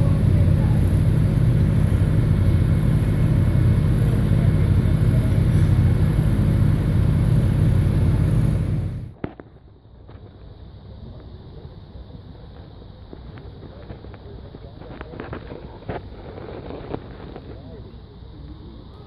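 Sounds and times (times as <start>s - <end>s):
construction machinery engine droning: 0.0s - 19.0s.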